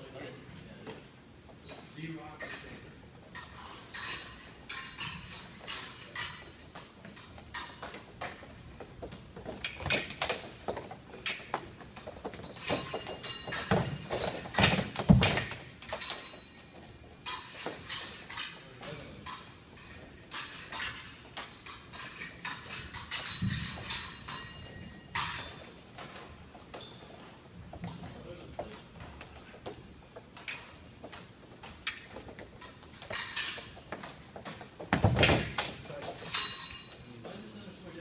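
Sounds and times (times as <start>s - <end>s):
sneakers tapping and squeaking: 0.9s - 37.4s
fencing blades clashing: 1.6s - 37.3s.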